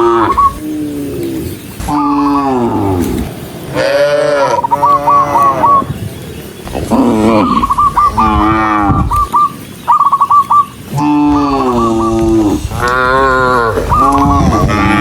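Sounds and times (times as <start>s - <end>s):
cows mooing: 0.0s - 6.0s, 6.6s - 9.3s, 10.9s - 15.0s.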